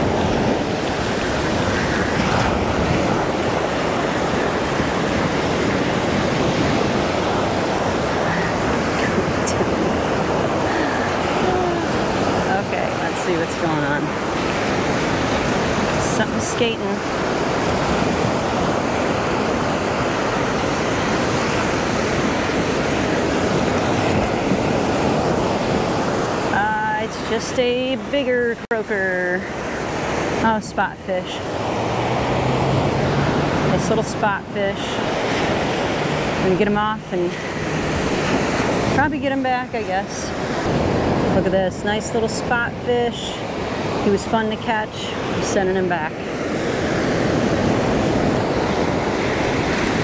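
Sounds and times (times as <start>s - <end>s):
ocean surf breaking on beach: 0.0s - 50.0s.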